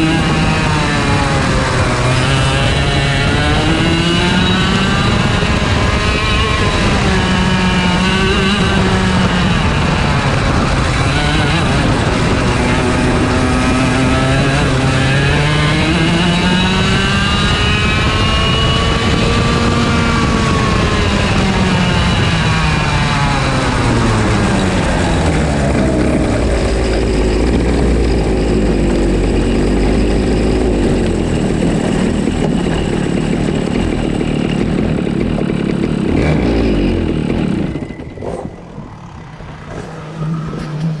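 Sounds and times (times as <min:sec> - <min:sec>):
kart engine revving: 0:00.0 - 0:41.0.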